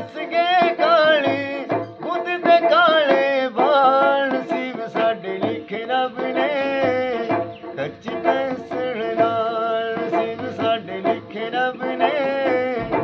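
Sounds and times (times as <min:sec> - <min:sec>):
man singing folk song: 0:00.0 - 0:13.0
plucked lute: 0:00.0 - 0:13.0.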